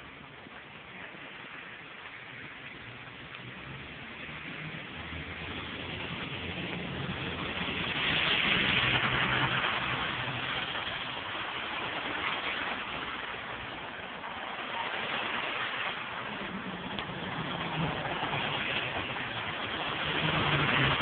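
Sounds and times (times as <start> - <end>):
car passing on wet road: 0.0 - 21.0.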